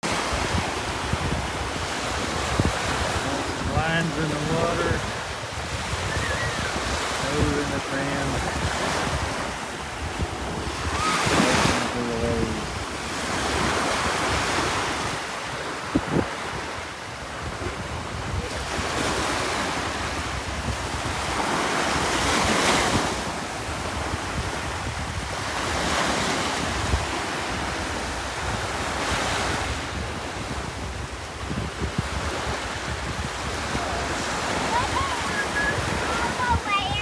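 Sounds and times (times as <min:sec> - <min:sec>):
surf breaking on beach: 0:00.0 - 0:37.0
wind buffeting microphone: 0:00.0 - 0:37.0.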